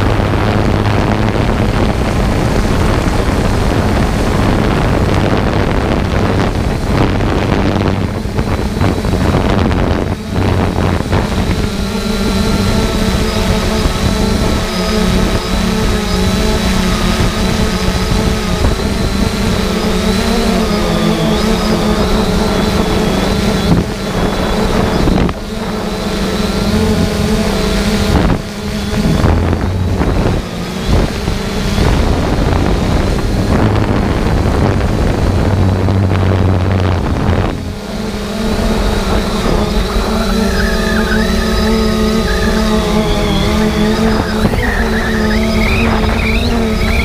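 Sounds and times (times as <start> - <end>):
drone propellers whining: 0.0 - 47.0
wind buffeting microphone: 0.0 - 47.0.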